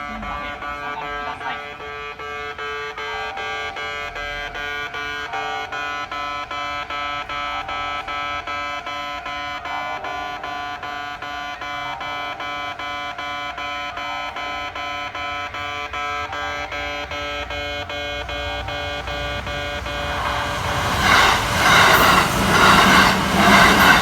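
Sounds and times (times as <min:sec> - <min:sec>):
crossing alarm fast beeps: 0:00.0 - 0:24.0.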